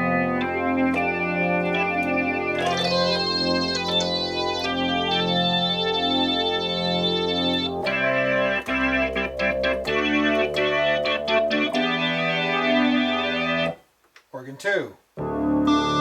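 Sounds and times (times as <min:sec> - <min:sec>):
synthesizer organ chords: 0:00.0 - 0:13.8, 0:15.2 - 0:16.0.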